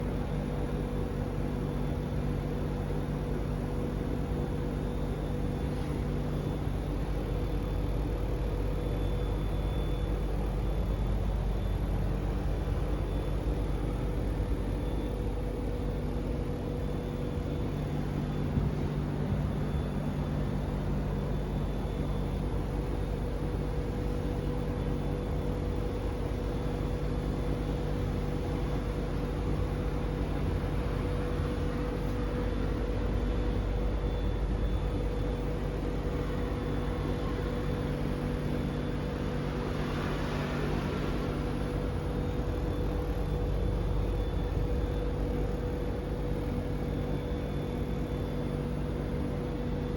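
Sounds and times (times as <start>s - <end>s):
air conditioner humming: 0.0s - 49.9s
faint high-pitched whine: 0.0s - 49.9s.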